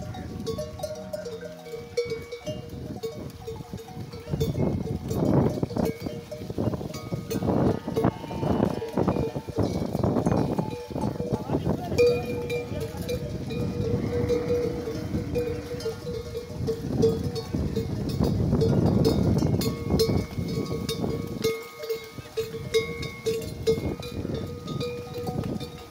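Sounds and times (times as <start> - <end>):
camel bells clanking: 0.0 - 25.9.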